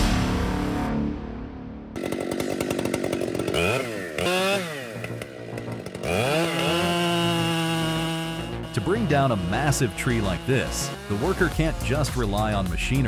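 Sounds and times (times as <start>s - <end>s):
chainsaw engine revving: 1.9s - 13.0s.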